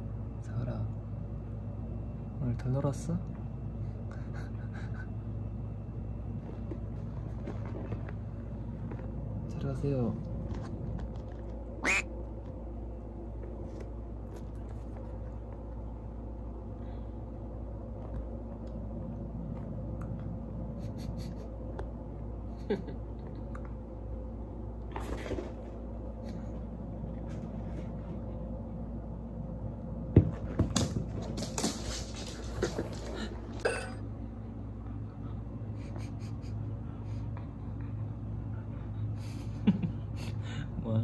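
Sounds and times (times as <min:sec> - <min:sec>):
low room hum: 0:00.0 - 0:41.0.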